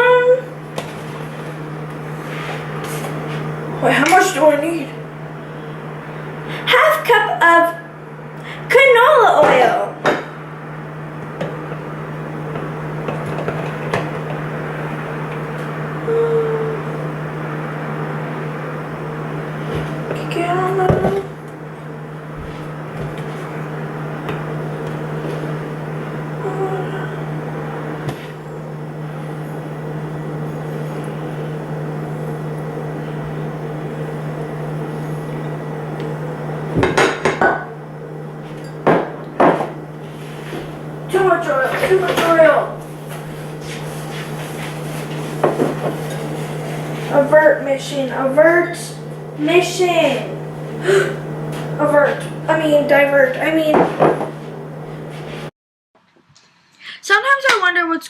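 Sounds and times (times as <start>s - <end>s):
steady low hum: 0.0s - 55.5s.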